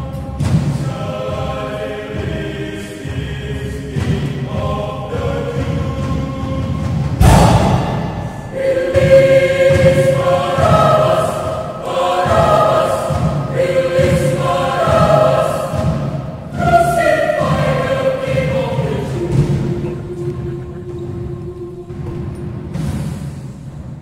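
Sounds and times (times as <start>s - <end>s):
mixed choir singing chords: 0.0s - 24.0s.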